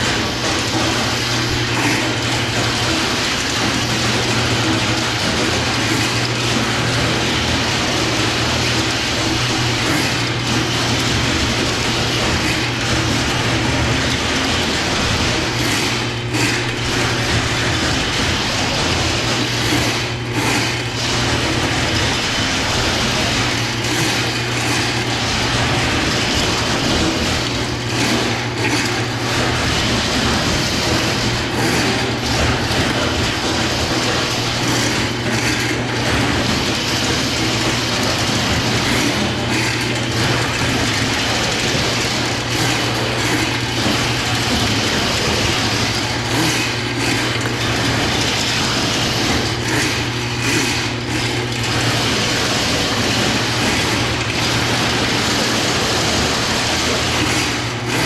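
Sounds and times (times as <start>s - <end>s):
drain-cleaning machine running: 0.0s - 58.0s.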